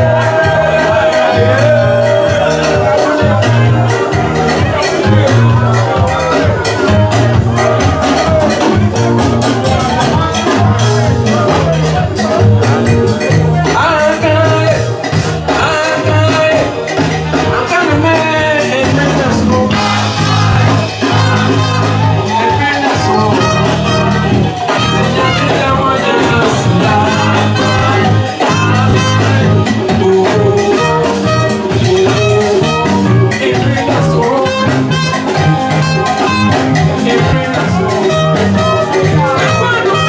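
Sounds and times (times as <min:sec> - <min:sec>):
live band playing dance music: 0:00.0 - 0:40.0
man singing: 0:00.0 - 0:40.0.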